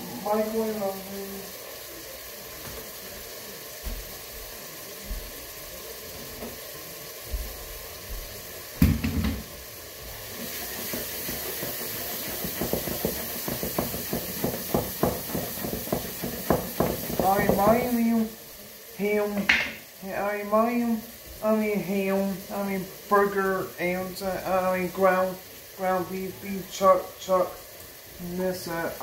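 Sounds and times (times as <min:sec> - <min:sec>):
meat sizzling in a pot: 0:00.0 - 0:29.0.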